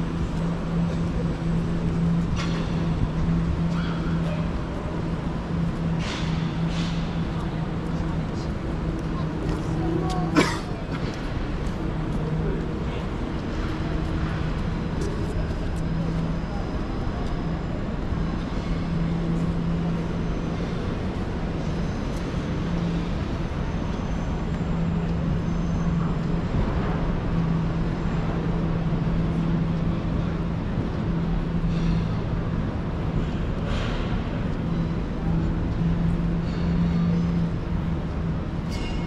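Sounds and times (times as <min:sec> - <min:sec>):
city traffic noise: 0:00.0 - 0:39.0.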